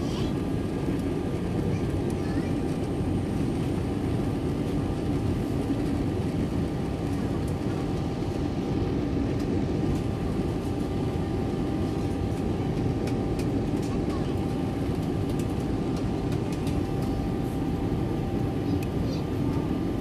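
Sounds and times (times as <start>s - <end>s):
jet engines and airflow roar: 0.0s - 20.0s.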